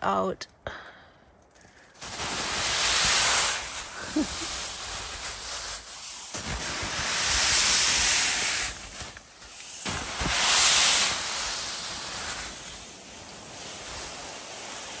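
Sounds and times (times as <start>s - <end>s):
rustling nylon: 1.8s - 15.0s
snow sliding off tent fabric: 1.9s - 15.0s.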